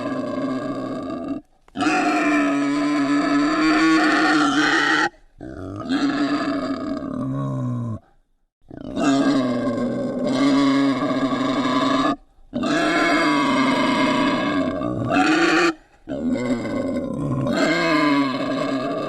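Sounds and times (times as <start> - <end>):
wild boar squealing: 0.0 - 7.5, 8.8 - 19.0.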